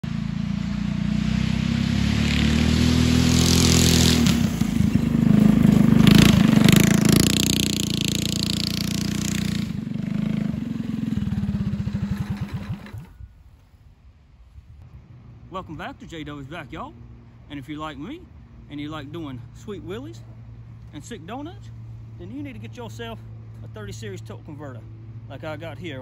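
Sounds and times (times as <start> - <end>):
go-kart engine: 0.0 - 13.5, 14.9 - 26.0.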